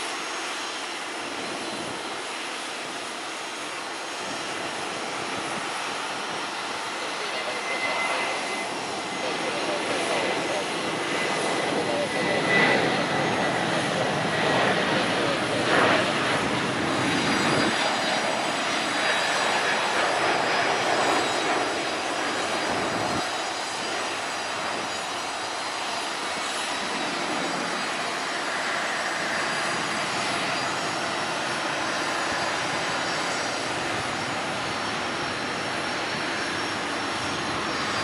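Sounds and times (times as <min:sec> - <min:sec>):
propeller engine drone: 0:00.0 - 0:38.0.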